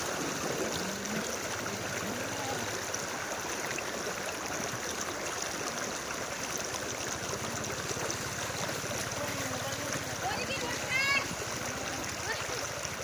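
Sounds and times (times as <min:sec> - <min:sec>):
wading through floodwater: 0:00.0 - 0:13.0.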